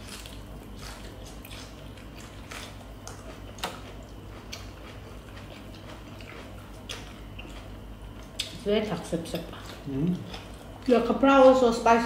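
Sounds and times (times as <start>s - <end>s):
chewing: 0.0s - 11.1s.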